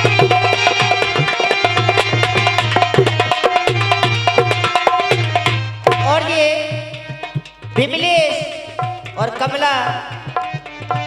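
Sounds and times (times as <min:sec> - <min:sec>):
hand drum beat: 0:00.0 - 0:11.0.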